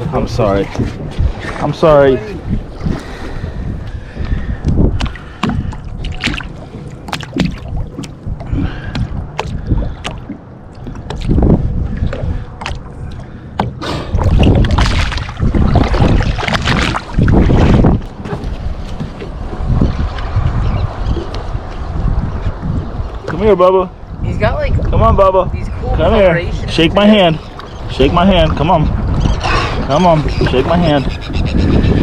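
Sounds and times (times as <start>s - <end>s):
wind gusting on microphone: 0.0s - 13.1s, 13.7s - 32.0s.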